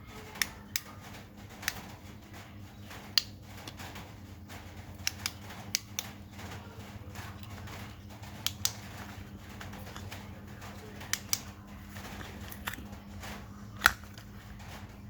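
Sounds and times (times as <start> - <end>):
small hard parts clicking: 0.0 - 15.0.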